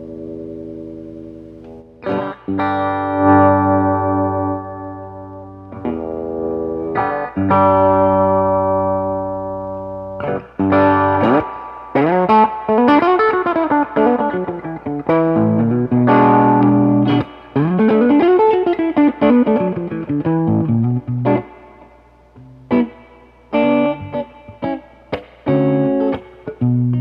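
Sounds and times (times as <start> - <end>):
electric guitar chords and runs: 0.0 - 27.0.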